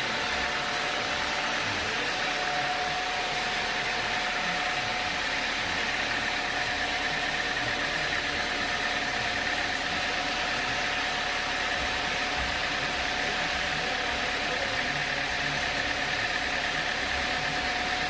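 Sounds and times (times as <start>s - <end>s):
sawmill machinery whining: 0.0s - 18.0s.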